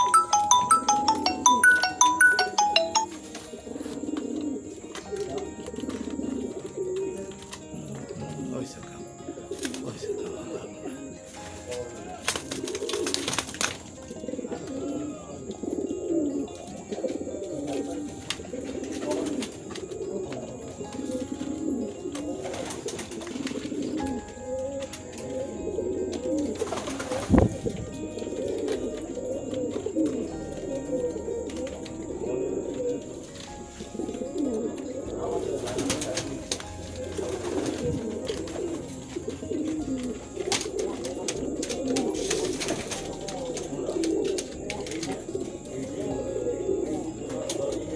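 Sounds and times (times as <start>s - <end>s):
pigeons cooing: 3.2s - 47.9s.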